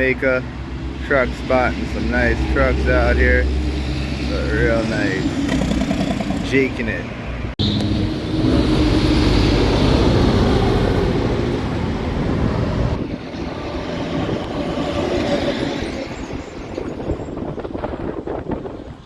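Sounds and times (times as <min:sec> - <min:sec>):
diesel truck engine braking: 0:00.0 - 0:19.0.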